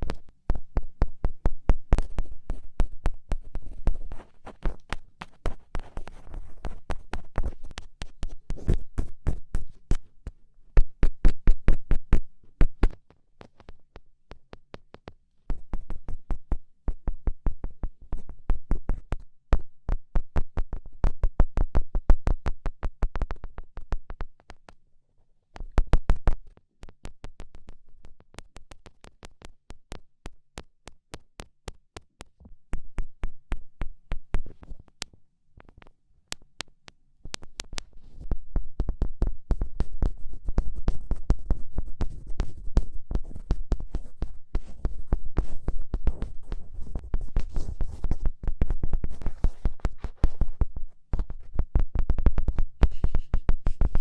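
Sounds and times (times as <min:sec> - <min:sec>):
rapid fingertip tapping: 0:00.0 - 0:24.8, 0:25.6 - 0:54.0.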